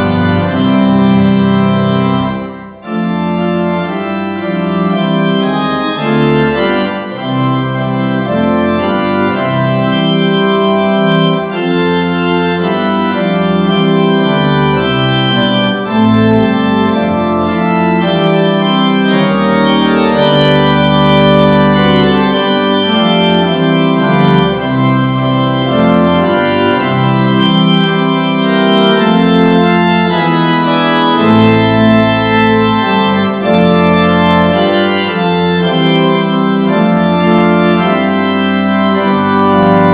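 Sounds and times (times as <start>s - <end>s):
organ music: 0.0s - 39.9s.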